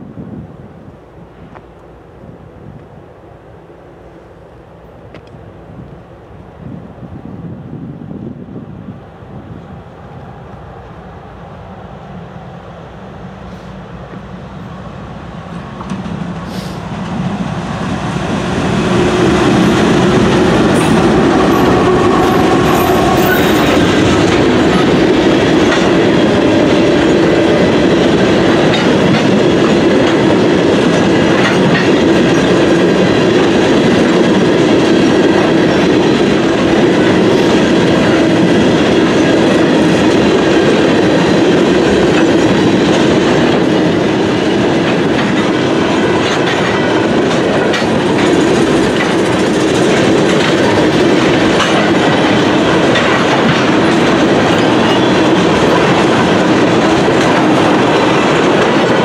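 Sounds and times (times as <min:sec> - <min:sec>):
diesel locomotives passing: 0:00.0 - 0:59.0
train cars rumbling on rails: 0:00.0 - 0:59.0.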